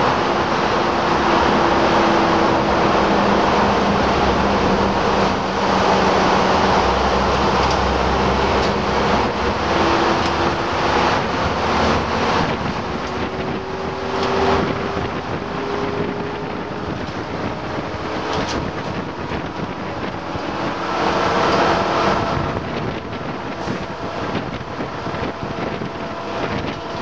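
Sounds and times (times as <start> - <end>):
bus engine running with whine: 0.0 - 27.0
wind rushing through windows: 0.0 - 27.0.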